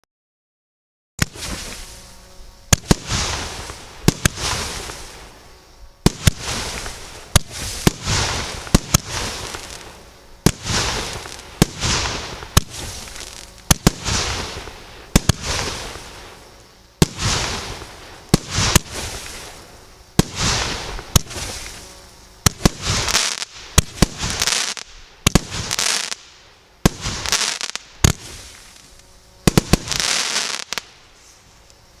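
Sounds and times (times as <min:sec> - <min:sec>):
fireworks banging: 0:01.2 - 0:02.0, 0:02.7 - 0:05.4, 0:06.0 - 0:31.0.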